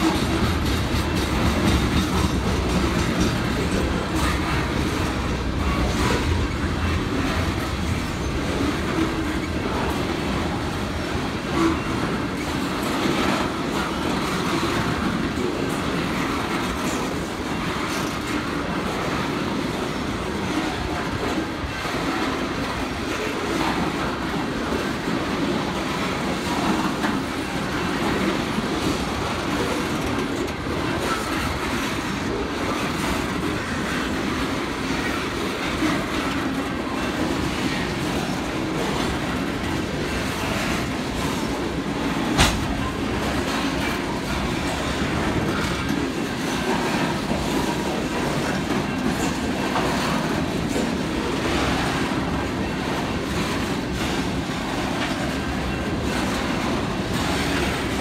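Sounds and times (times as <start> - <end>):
freight train rolling past: 0.0 - 58.0
steel wheels on rails: 0.0 - 58.0.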